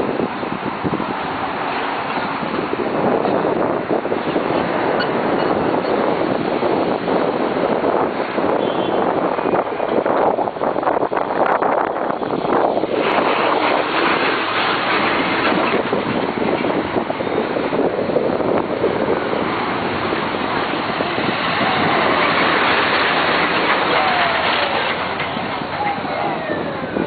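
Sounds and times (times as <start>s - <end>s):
road traffic passing close: 0.0s - 27.0s
truck passing: 0.0s - 27.0s.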